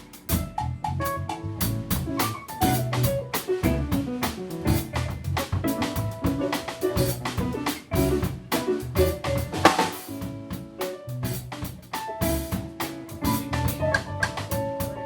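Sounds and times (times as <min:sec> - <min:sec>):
busy drum kit: 0:00.0 - 0:15.0
jazz-funk band music: 0:00.0 - 0:15.0.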